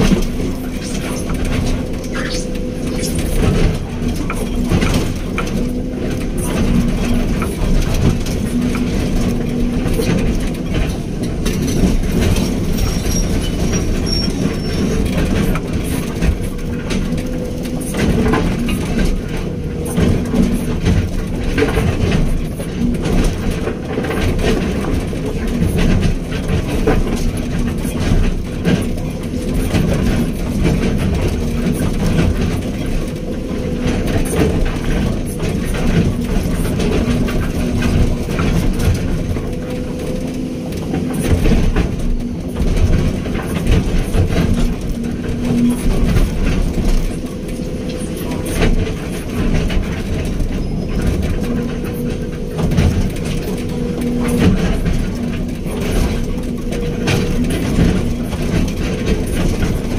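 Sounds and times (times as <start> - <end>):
excavator diesel engine running: 0.0 - 59.9
machine knocks and clanks: 0.0 - 59.9.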